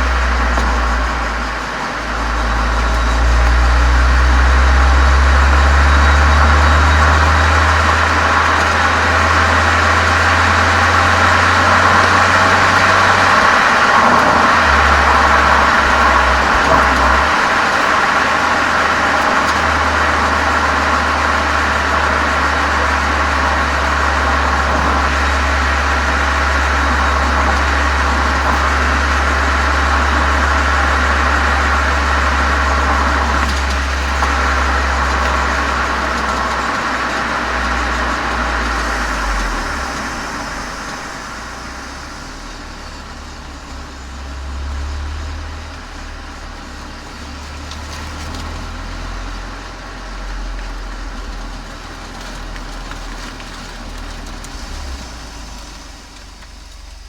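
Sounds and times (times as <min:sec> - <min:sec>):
car exhaust rumble: 0:00.0 - 0:57.0.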